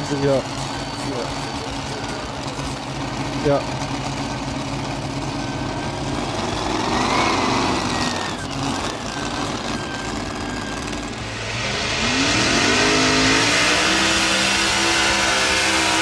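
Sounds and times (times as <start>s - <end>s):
multi-engine tractor revving up: 0.0s - 16.0s
pulling tractor engines at full power: 0.0s - 16.0s.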